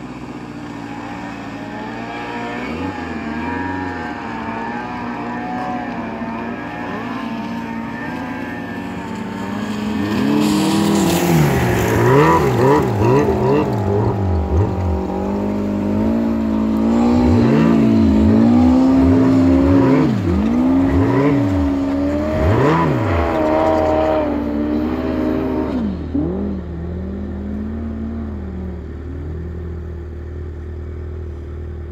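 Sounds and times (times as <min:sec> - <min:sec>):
snowmobile engine revving: 0:00.0 - 0:31.9.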